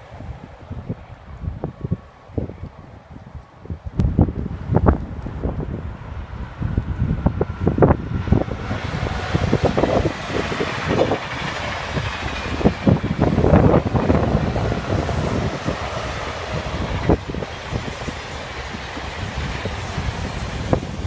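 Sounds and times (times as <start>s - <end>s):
train wheels rumbling over rails: 0.0s - 21.0s
wind buffeting microphone: 0.0s - 21.0s.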